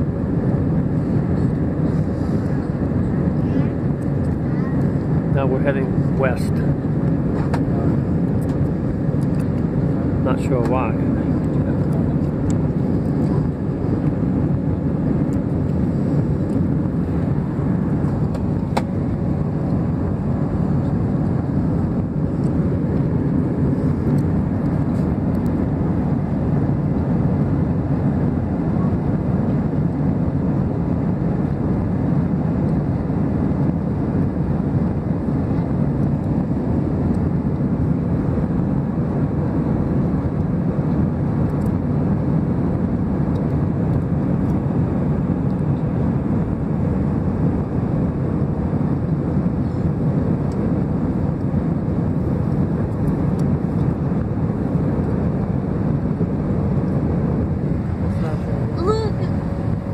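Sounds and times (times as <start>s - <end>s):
jet airliner cabin noise: 0.0s - 59.9s.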